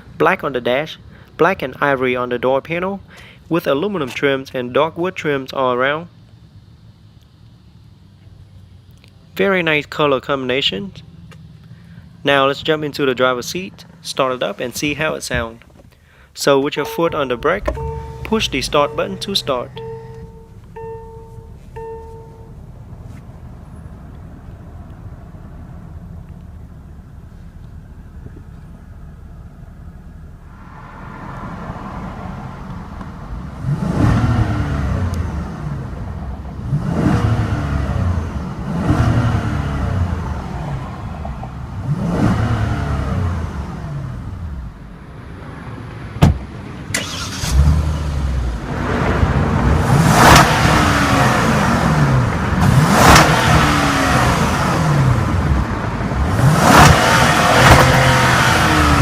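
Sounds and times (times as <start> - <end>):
car engine idling and revving: 0.0 - 5.2, 6.1 - 16.0, 16.6 - 59.0.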